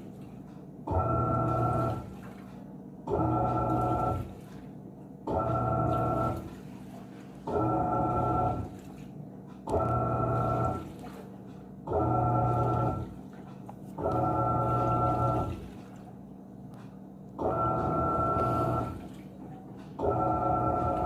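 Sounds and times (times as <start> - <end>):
washing machine motor whine: 0.0 - 21.0
water churning: 0.0 - 21.0.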